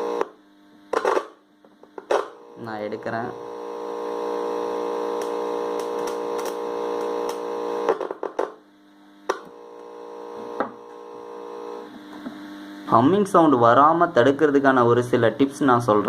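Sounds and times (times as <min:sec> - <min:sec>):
faint hum: 0:00.0 - 0:16.0
loud mains hum: 0:00.0 - 0:16.0.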